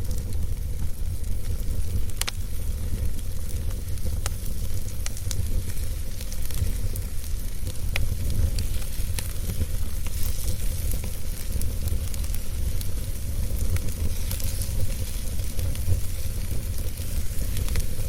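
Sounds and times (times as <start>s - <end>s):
fire crackles and pops: 0.0s - 18.0s
fire rumble and hiss: 0.0s - 18.0s.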